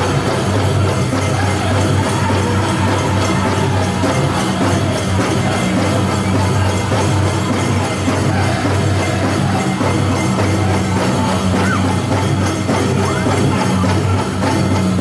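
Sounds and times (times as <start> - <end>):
group singing: 0.0 - 14.5
group drumming: 0.0 - 15.0.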